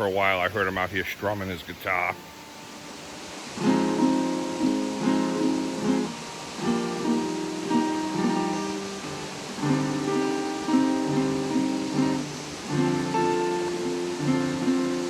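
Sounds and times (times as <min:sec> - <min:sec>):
acoustic guitar strumming: 0:02.2 - 0:15.0.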